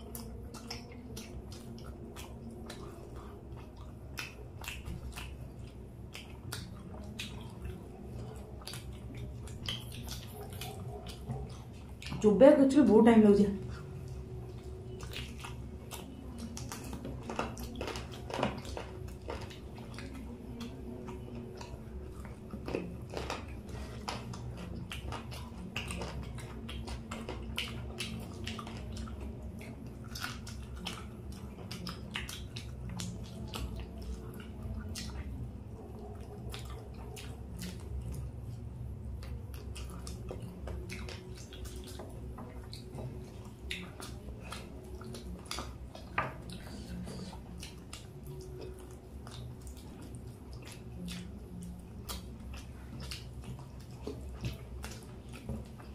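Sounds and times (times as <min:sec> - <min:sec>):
chewing garlic: 0:00.0 - 0:55.9.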